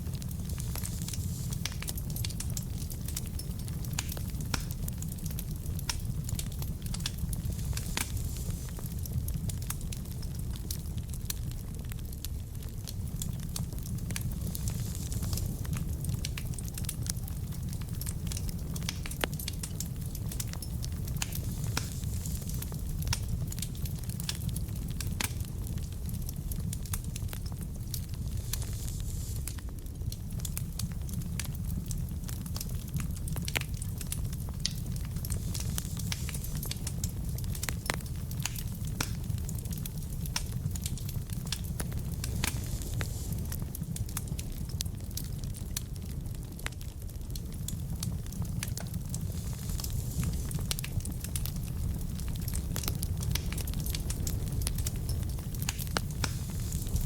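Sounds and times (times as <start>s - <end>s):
fire flames rumbling: 0.0s - 57.0s
logs crackling and popping: 0.0s - 57.0s.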